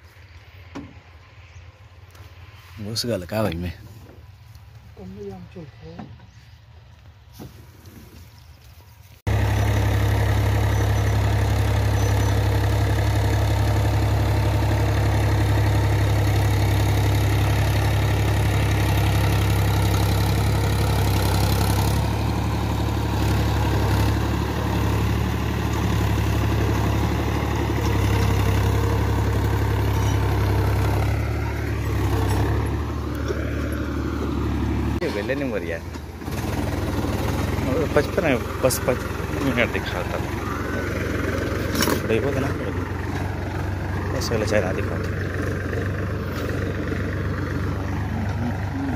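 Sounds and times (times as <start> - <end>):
tractor diesel engine under load: 9.2 - 48.9.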